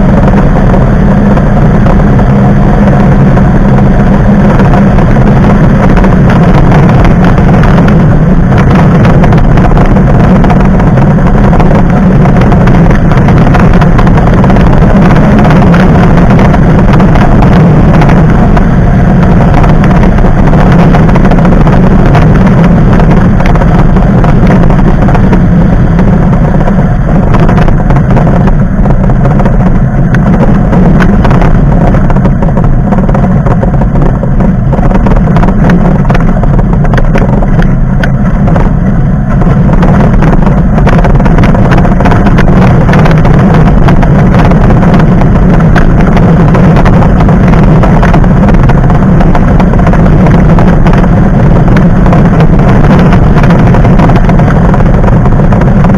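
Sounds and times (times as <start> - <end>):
motor vehicle engine rumble: 0.0 - 55.9.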